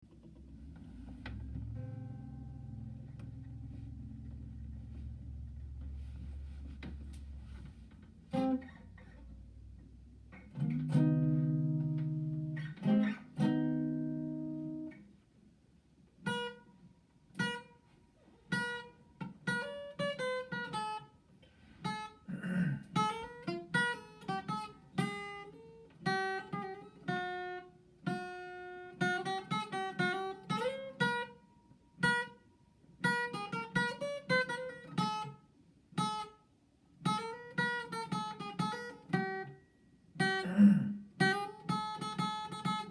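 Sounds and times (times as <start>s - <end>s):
acoustic guitar: 0.0s - 15.2s, 16.2s - 36.4s, 37.0s - 42.9s.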